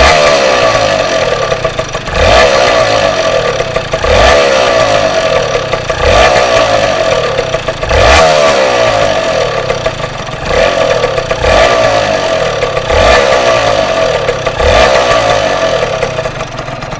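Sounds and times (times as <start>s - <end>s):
two-stroke engine revving: 0.0s - 16.9s.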